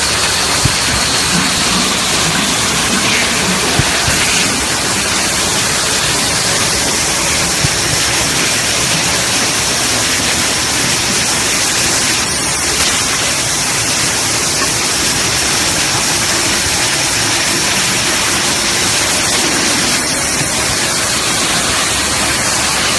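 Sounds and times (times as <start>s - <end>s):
loud steady static hiss: 0.0s - 22.9s.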